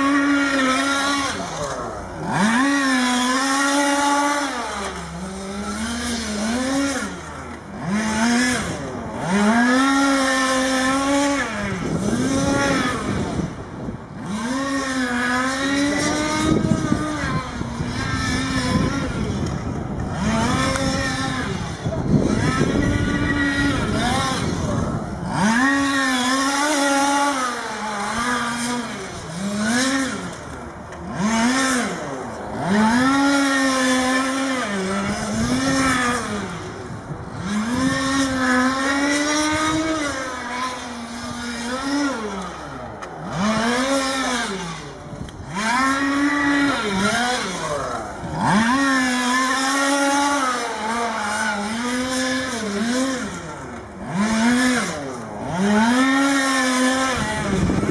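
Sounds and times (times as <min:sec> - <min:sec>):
small engines revving: 0:00.0 - 0:57.9.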